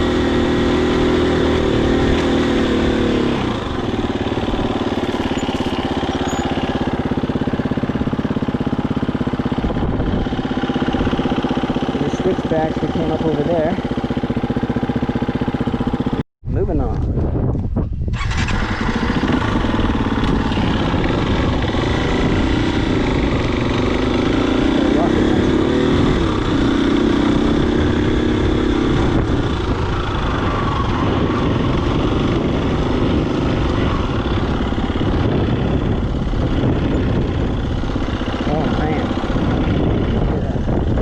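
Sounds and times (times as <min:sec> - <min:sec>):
wind rushing over microphone: 0:00.0 - 0:13.8, 0:16.0 - 0:41.0
dirt bike engine running: 0:00.0 - 0:41.0.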